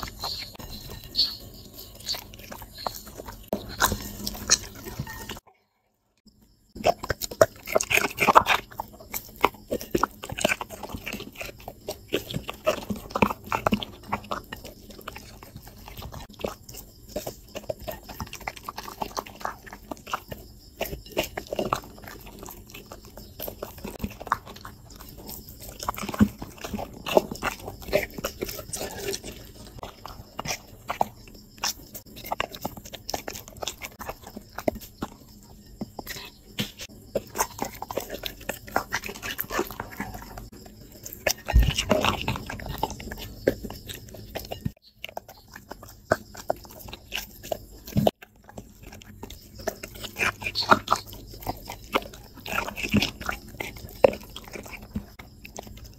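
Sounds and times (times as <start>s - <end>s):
dog chewing and crunching vegetables: 0.0s - 5.4s, 6.2s - 55.9s.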